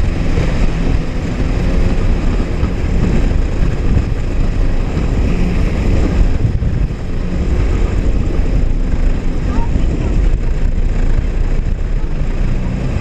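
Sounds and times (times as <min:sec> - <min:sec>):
jet ski engine running: 0:00.0 - 0:13.0
wind buffeting microphone: 0:00.0 - 0:13.0.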